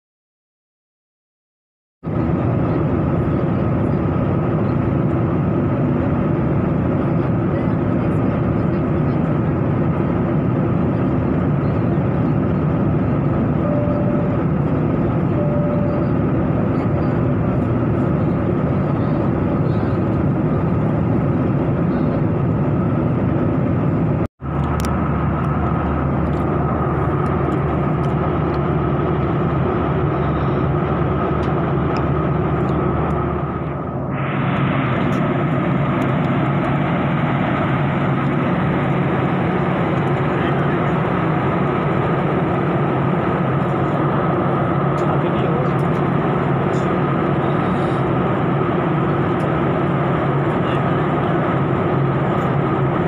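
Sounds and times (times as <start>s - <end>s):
jet airliner cabin noise: 2.0s - 53.0s
steady hum: 2.1s - 53.0s.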